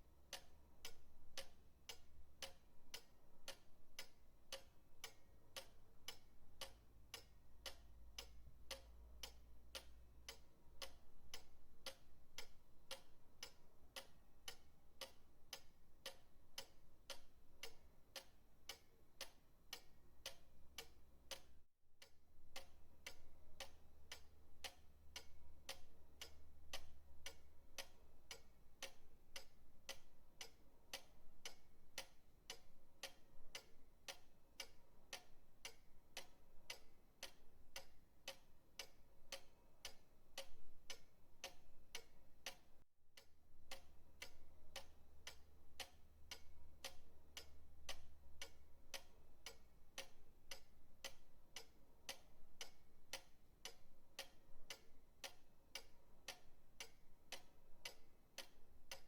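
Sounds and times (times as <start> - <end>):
pendulum clock ticking: 0.0 - 59.0.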